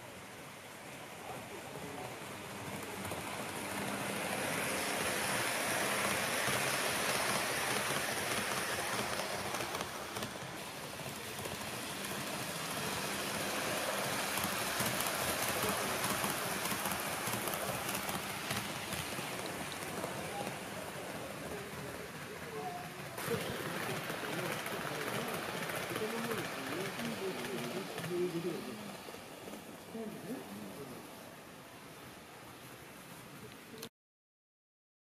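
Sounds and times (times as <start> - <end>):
model train wheels rattling: 0.8 - 30.2.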